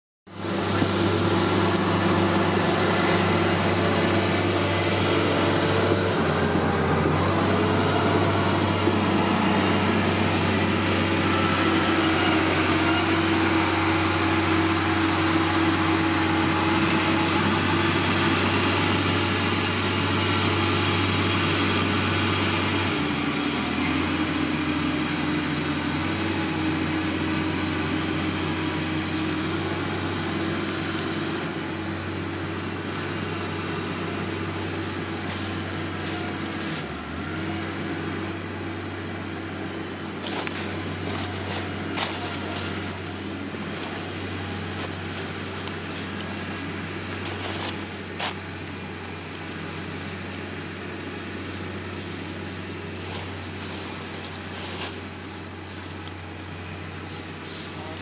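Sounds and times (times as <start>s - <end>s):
low mechanical hum: 0.3s - 58.0s.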